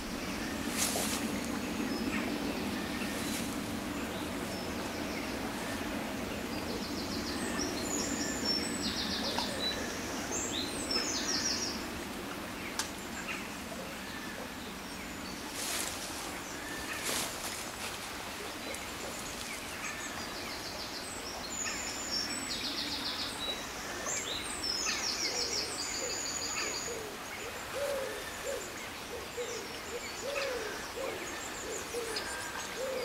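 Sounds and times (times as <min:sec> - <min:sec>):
river water flowing: 0:00.0 - 0:32.8.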